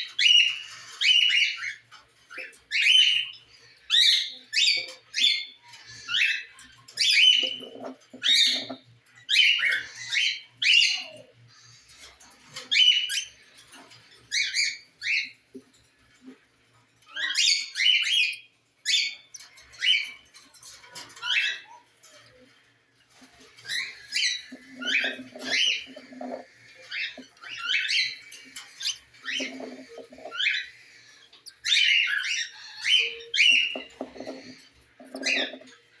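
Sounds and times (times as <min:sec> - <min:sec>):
cockatiels chirping and squawking: 0:00.0 - 0:36.0.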